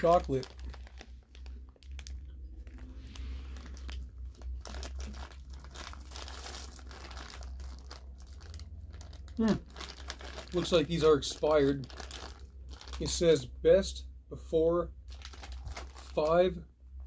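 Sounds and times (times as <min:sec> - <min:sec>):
plastic candy bag crinkling: 0:00.0 - 0:13.5, 0:15.0 - 0:16.6.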